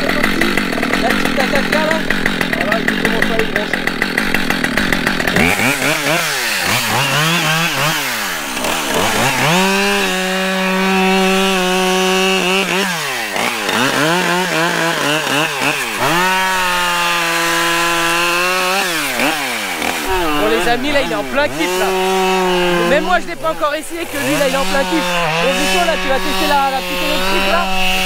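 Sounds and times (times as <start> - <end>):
chainsaw cutting through tree trunk: 0.0 - 28.0
chainsaw revving: 0.0 - 28.0.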